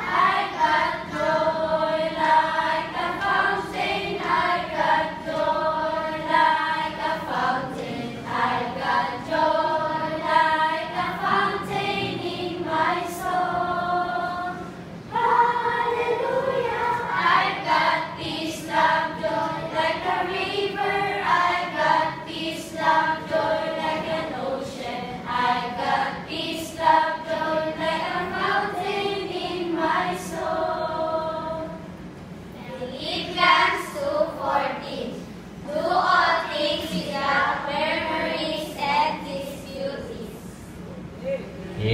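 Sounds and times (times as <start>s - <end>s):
children's choir singing: 0.0s - 40.6s.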